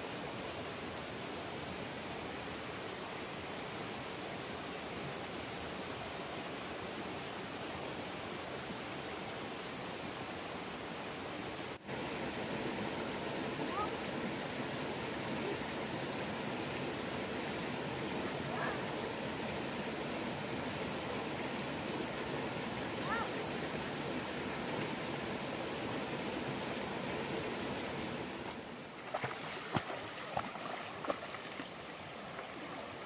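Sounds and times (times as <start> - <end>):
stream water flowing: 0.0 - 33.0.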